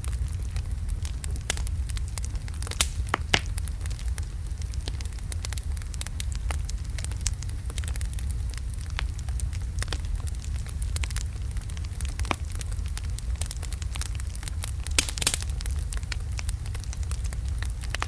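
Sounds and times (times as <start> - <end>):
fire crackling and popping: 0.0 - 18.0
low flame rumble: 0.0 - 18.0.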